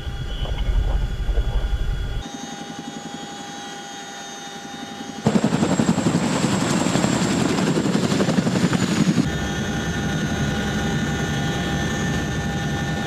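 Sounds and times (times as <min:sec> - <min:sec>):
helicopter interior rumble: 0:00.0 - 0:03.2, 0:05.1 - 0:13.0
pulsing rotor noise: 0:00.0 - 0:13.0
turbine whine: 0:00.0 - 0:13.0.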